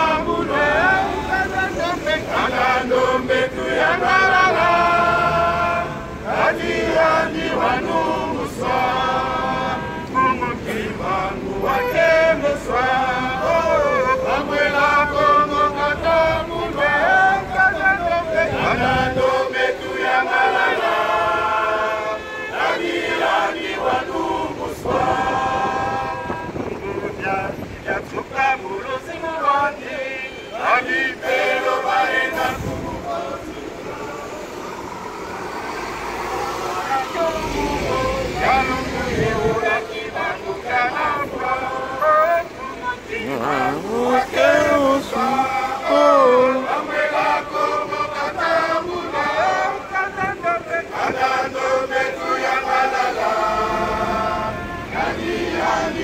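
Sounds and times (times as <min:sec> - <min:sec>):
group singing chant-like song: 0:00.0 - 0:56.0.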